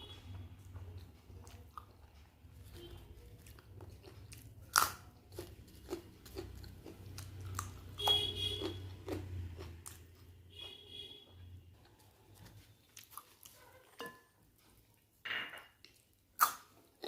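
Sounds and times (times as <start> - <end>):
chewing with crisp crunches: 0.0 - 15.2, 15.8 - 17.0.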